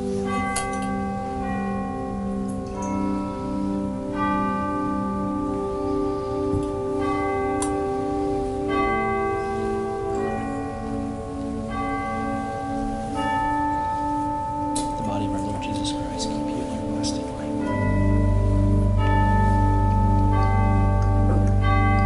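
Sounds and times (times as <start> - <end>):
church organ chords: 0.0 - 22.0.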